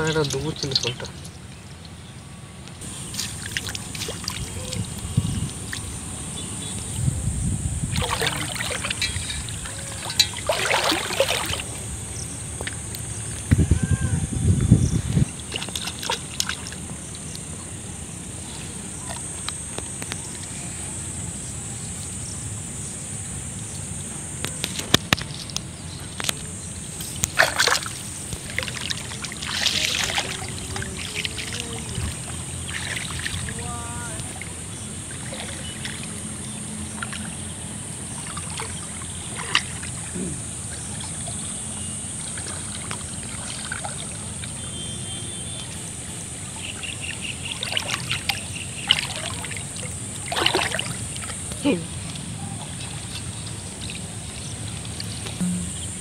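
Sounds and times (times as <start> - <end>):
water sloshing and splashing: 0.0 - 2.0, 2.8 - 7.0, 7.8 - 13.3, 15.0 - 17.8, 24.7 - 55.4
steady high-pitched hum: 0.0 - 56.0.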